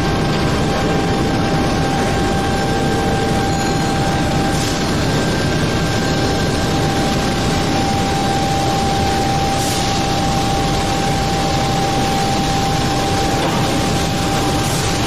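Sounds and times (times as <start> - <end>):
induction furnace running: 0.0 - 15.0
thin high whine: 0.0 - 15.0.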